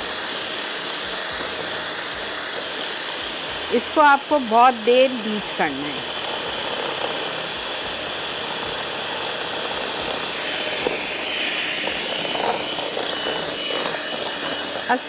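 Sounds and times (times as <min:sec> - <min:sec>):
electric hand mixer running: 0:00.0 - 0:15.0.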